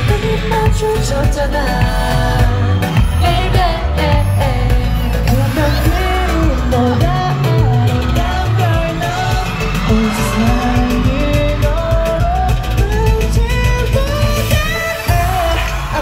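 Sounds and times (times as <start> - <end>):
pop song with male group vocals: 0.0 - 16.0.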